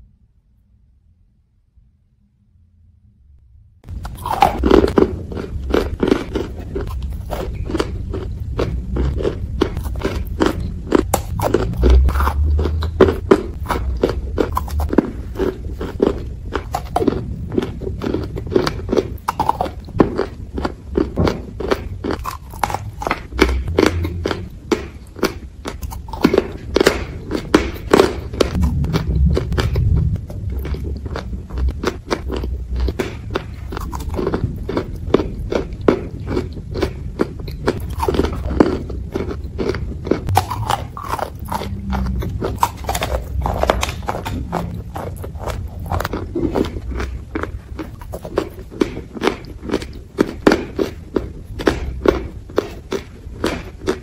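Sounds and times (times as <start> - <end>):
cookies crunching: 3.8 - 54.0
low chewing thumps: 3.8 - 54.0.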